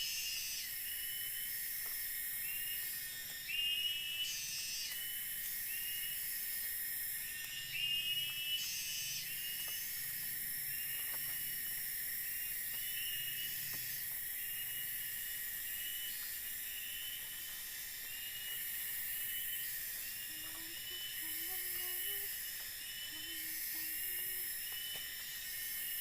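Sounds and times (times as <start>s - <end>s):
insect chirps: 0.0s - 26.0s
insects buzzing: 0.0s - 26.0s.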